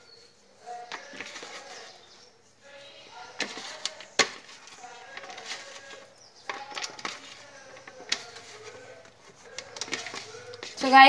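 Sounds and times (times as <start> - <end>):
hands rubbing potato slices: 0.0 - 11.0.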